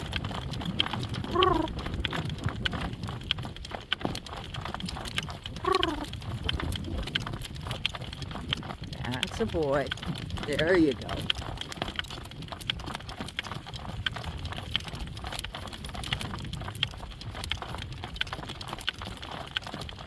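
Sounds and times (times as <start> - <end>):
horse hooves clip-clopping: 0.0 - 20.0
wind rumble on microphone: 0.0 - 20.0.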